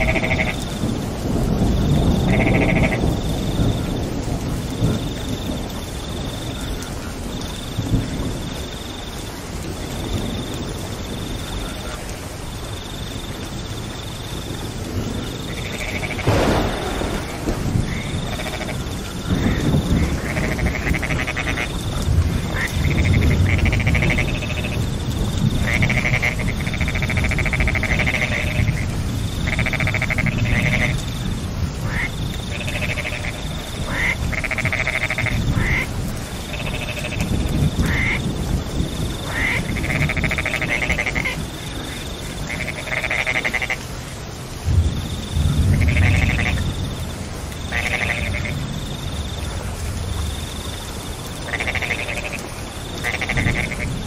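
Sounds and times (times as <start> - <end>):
frogs croaking in chorus: 0.0 - 54.0
rain: 0.0 - 54.0.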